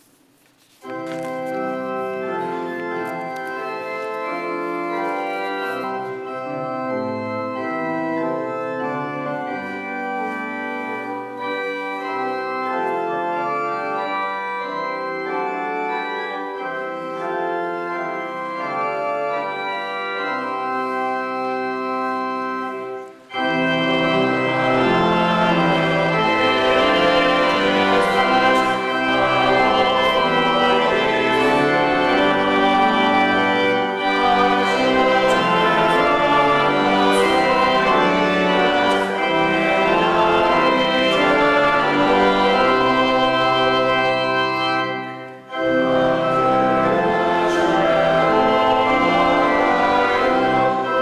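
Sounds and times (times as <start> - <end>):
organ playing a hymn: 0.0 - 51.0.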